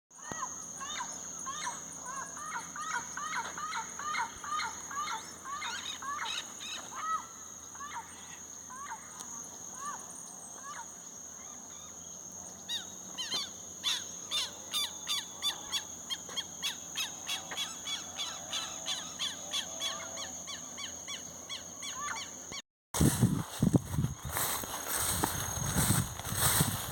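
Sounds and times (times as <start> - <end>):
high-pitched insect drone: 0.2 - 22.6, 23.2 - 26.9.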